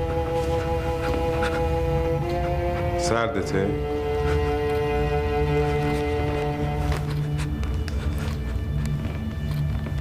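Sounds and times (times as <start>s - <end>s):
low sustained drone: 0.0s - 9.9s.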